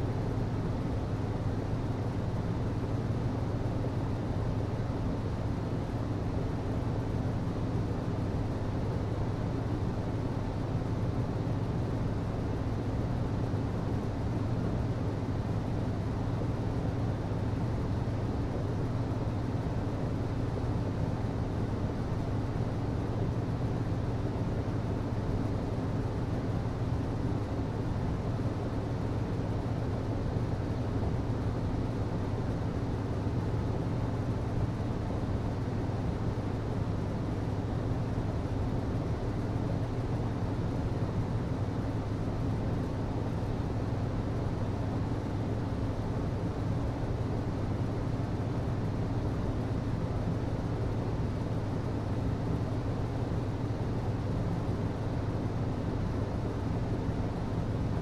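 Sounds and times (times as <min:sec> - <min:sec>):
air rushing from ventilation: 0:00.0 - 0:58.0.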